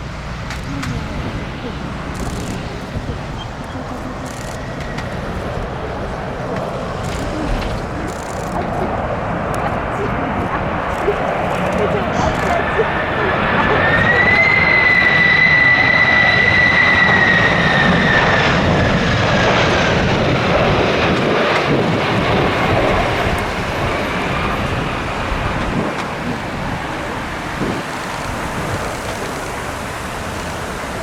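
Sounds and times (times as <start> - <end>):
jet engine whine: 0.0 - 31.0
jet rumble: 0.0 - 31.0
wind buffeting microphone: 0.0 - 31.0.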